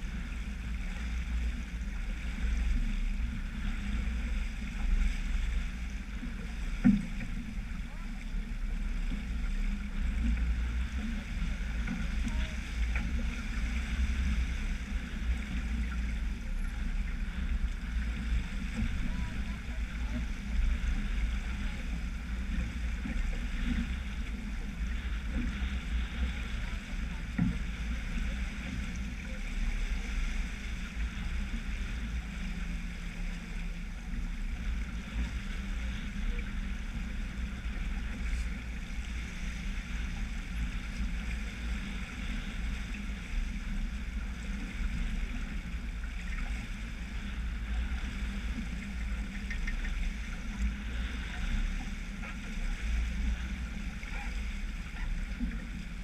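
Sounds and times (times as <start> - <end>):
water rushing along hull: 0.0 - 56.0
wind rumble on microphone: 0.0 - 56.0.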